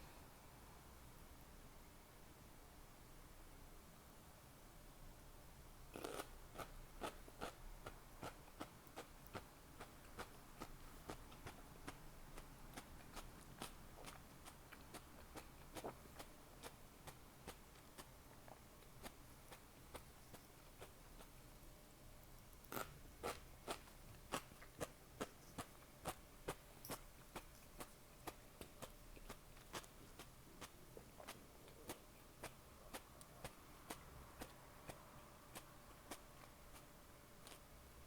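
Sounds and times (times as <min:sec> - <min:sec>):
person chewing food: 0:06.0 - 0:21.4, 0:22.6 - 0:37.7.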